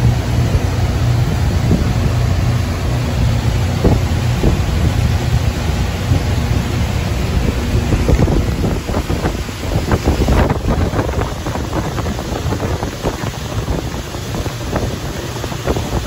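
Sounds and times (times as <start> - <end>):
boat engine droning: 0.0 - 16.0
wind buffeting microphone: 0.0 - 16.0.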